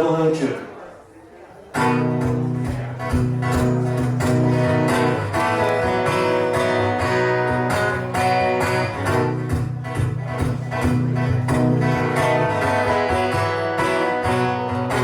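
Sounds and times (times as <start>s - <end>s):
strummed guitar chords: 1.8s - 15.0s.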